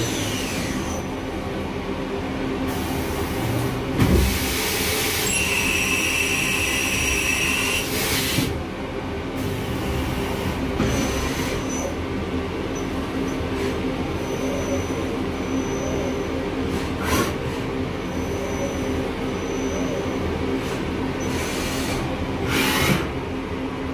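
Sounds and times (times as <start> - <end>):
machine hum and whine: 0.0 - 23.9.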